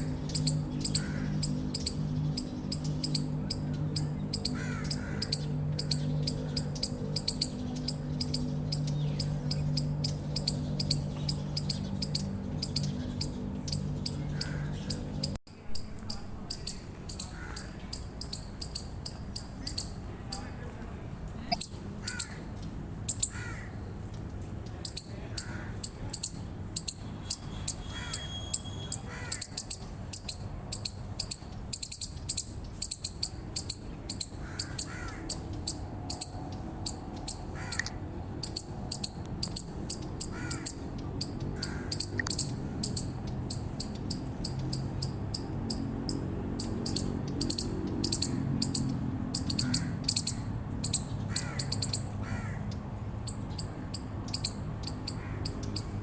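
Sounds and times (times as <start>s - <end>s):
chipmunk chirping: 0.0s - 20.6s, 21.4s - 23.5s, 24.6s - 52.5s, 53.2s - 56.0s.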